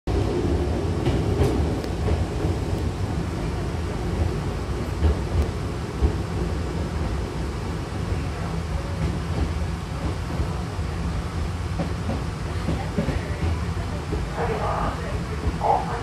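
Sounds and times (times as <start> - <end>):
train rumble from inside car: 0.1 - 16.0.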